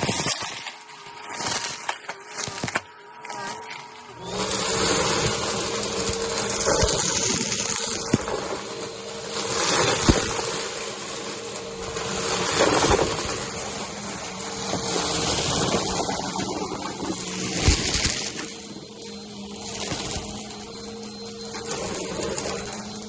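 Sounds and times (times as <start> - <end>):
debris rattling in vacuum: 0.0 - 23.0
vacuum cleaner motor whine: 0.0 - 23.0.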